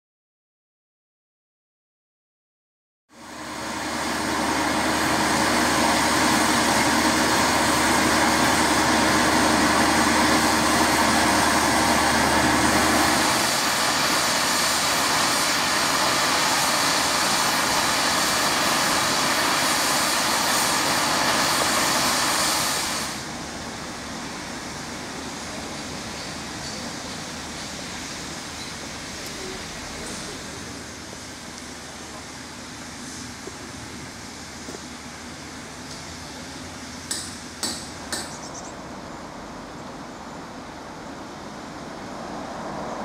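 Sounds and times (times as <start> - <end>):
steam hissing: 3.2 - 38.5.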